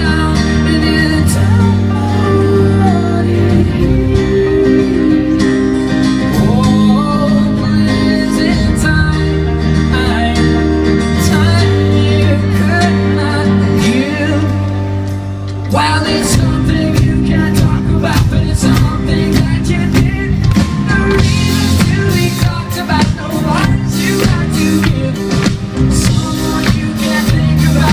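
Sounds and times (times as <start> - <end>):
drums: 0.0 - 27.9
guitar: 0.0 - 27.9
person singing: 0.0 - 27.9.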